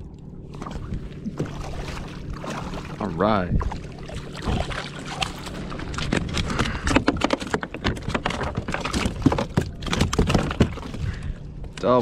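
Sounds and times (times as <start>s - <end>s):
fish flopping on kayak deck: 0.4s - 11.8s.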